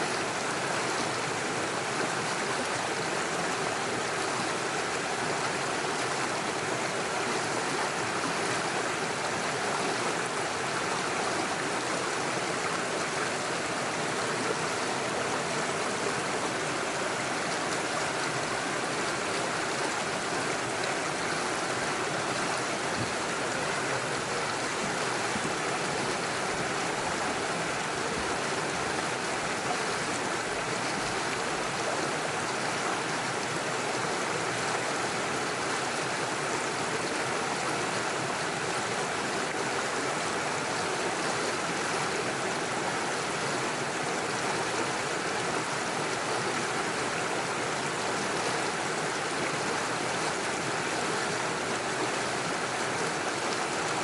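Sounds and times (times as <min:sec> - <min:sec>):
stream gurgling over stones: 0:00.0 - 0:54.0.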